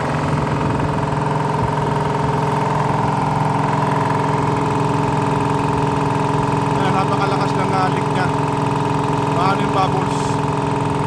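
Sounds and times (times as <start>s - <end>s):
air compressor chugging: 0.0s - 11.0s.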